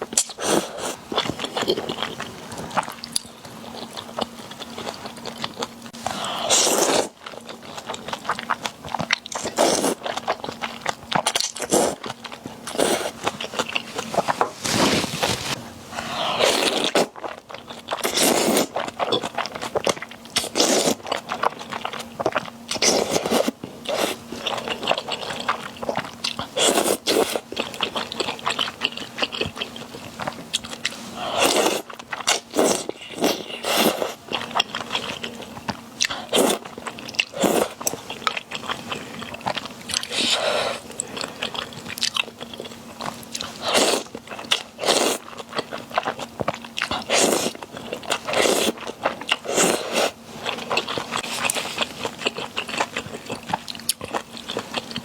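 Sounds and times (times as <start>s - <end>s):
crunchy chewing: 0.0s - 55.0s
faint steady hum: 0.0s - 55.0s.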